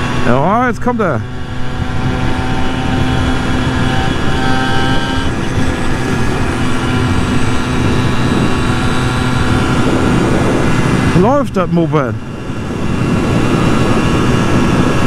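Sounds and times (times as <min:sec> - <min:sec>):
wind rush over microphone: 0:00.0 - 0:15.0.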